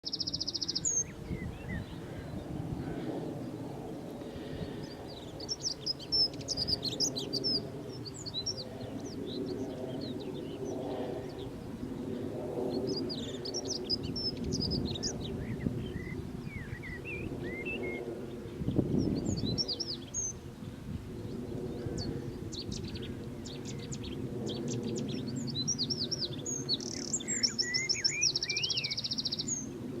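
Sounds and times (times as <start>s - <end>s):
songbird singing: 0.0s - 12.0s, 12.7s - 30.0s.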